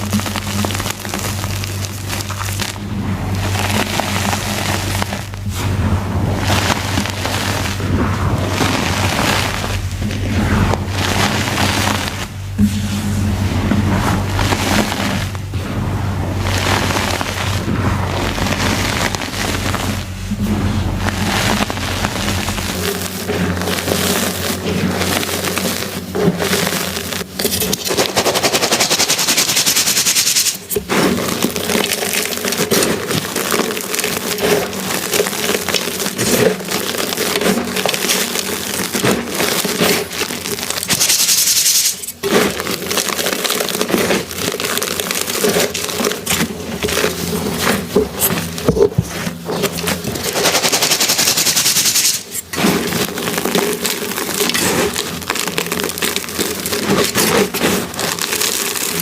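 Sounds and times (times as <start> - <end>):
chalk crunching and crackling: 0.0 - 59.0.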